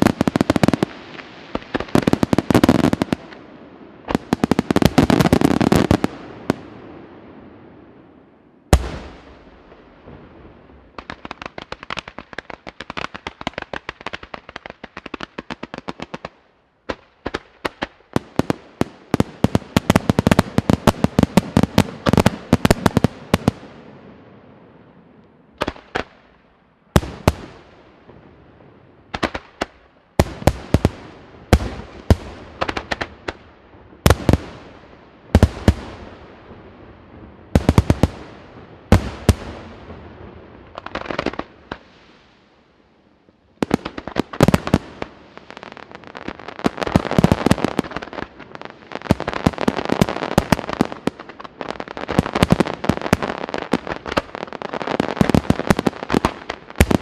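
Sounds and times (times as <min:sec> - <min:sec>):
firework bangs and crackling: 0:00.0 - 0:25.0, 0:25.6 - 0:42.6, 0:43.4 - 0:57.0.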